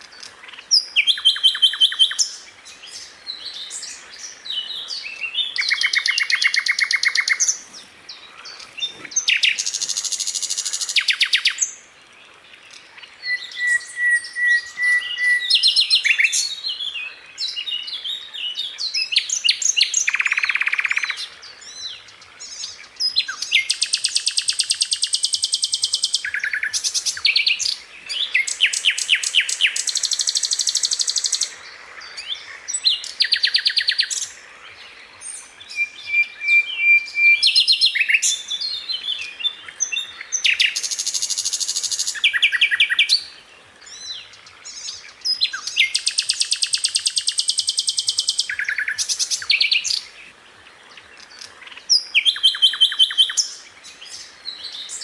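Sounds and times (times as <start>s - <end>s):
flycatcher trilling song: 0.0s - 11.8s, 12.5s - 55.0s.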